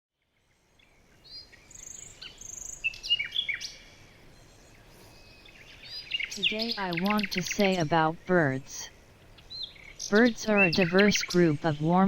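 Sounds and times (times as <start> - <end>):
songbirds chirping: 0.2 - 12.0.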